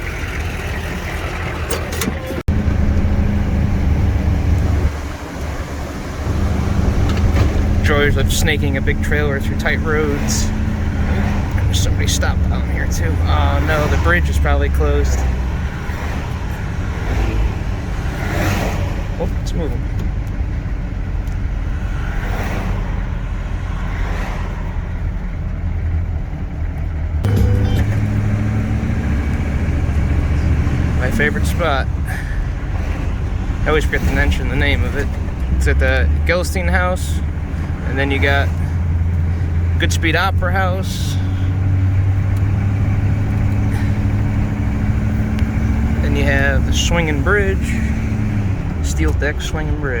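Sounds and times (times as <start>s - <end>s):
diesel truck engine running: 0.0s - 50.0s
road noise: 0.0s - 50.0s.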